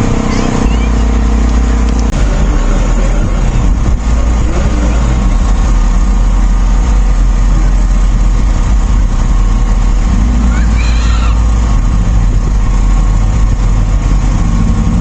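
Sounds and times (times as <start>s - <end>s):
vehicle engine running loudly: 0.0s - 15.0s.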